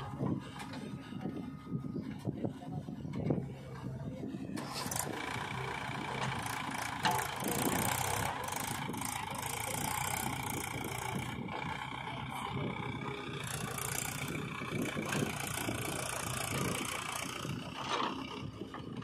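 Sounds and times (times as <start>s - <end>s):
backhoe diesel engine working: 0.0s - 19.0s
tractor diesel engine running: 0.0s - 19.0s.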